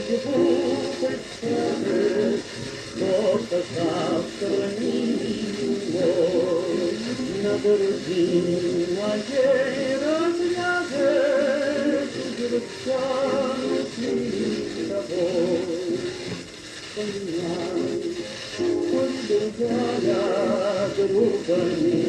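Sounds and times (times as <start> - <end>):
male tenor singing: 0.0 - 16.3, 17.0 - 22.0
instrumental accompaniment: 0.0 - 22.0.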